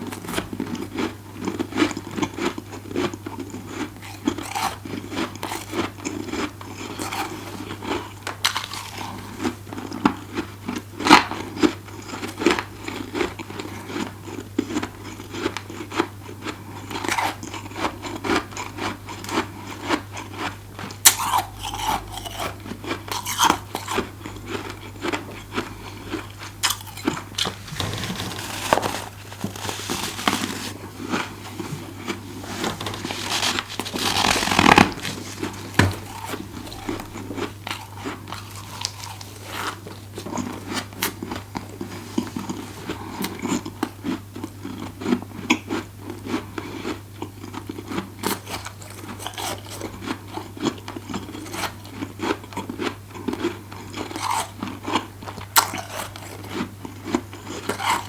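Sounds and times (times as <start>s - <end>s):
crunchy chewing of frost: 0.0s - 58.0s.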